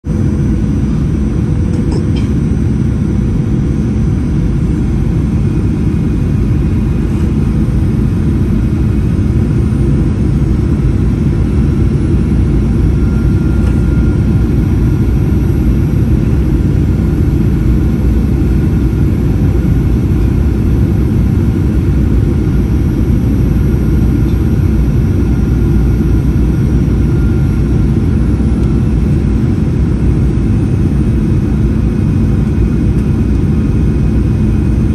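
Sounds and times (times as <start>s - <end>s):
airplane cabin engine roar: 0.0s - 34.9s.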